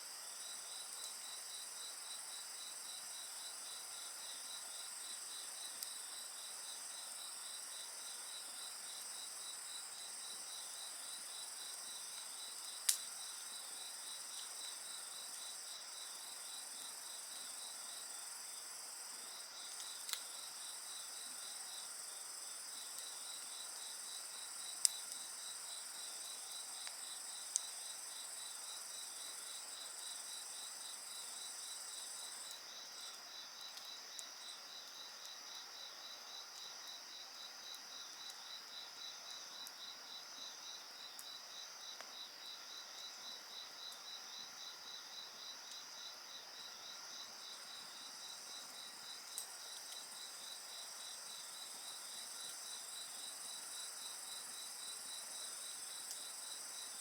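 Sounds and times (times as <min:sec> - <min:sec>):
insects chirping: 0:00.2 - 0:57.0.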